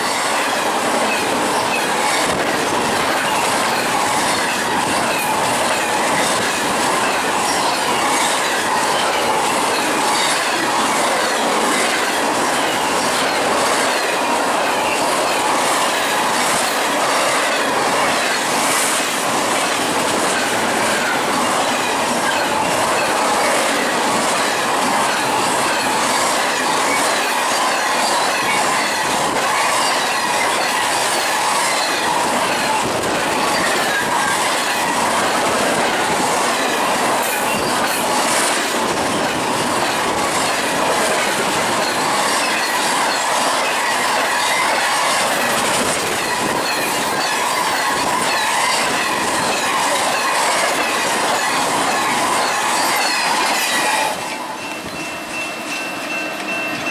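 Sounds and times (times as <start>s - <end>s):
train wheels rushing on rails: 0.0s - 56.9s.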